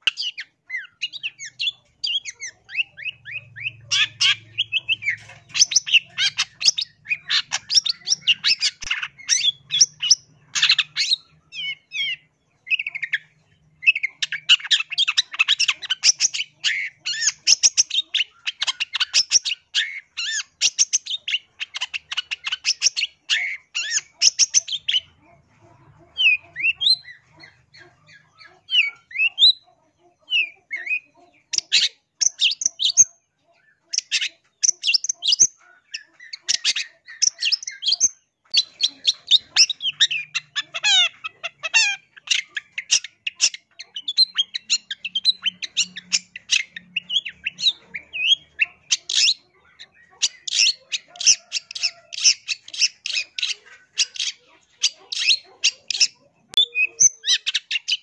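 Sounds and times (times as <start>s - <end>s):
bird chattering song and whistles: 0.0s - 58.0s.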